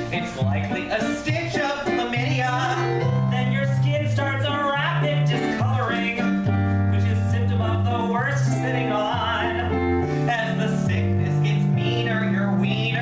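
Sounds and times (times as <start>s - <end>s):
bass line: 0.0s - 13.0s
keyboard: 0.0s - 13.0s
man singing: 0.0s - 13.0s.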